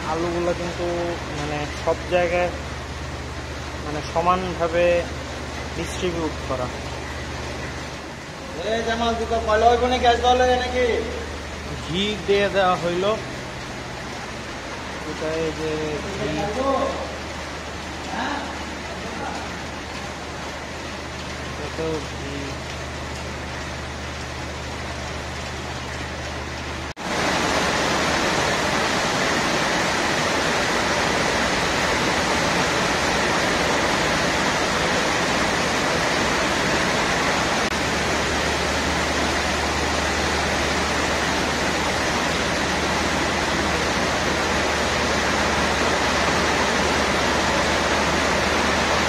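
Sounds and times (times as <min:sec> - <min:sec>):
steady rushing hiss: 0:00.0 - 0:49.0.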